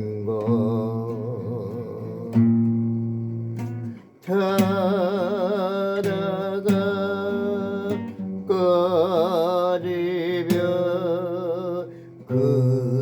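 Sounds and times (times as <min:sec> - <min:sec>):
person singing: 0:00.0 - 0:03.3, 0:04.2 - 0:13.0
acoustic guitar: 0:00.0 - 0:13.0.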